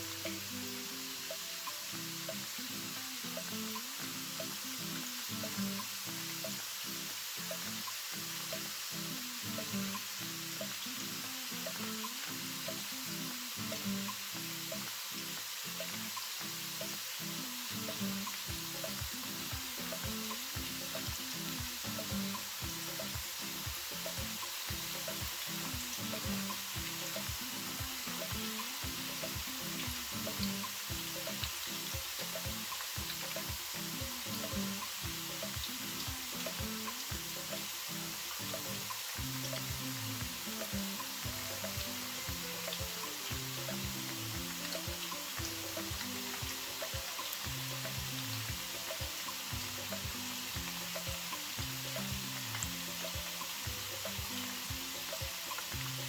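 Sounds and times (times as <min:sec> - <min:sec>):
background music with steady beat: 0:00.0 - 0:56.0
plantain sizzling in hot oil: 0:00.0 - 0:56.0.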